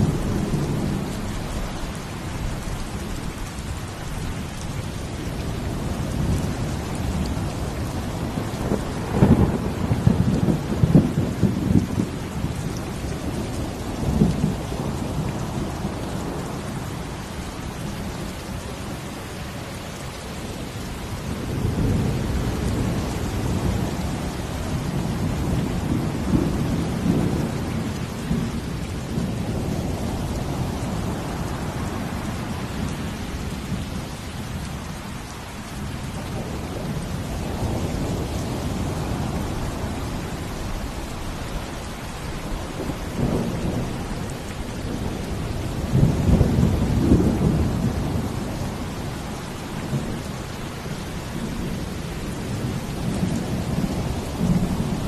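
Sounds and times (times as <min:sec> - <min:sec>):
steady falling rain: 0:00.0 - 0:55.0.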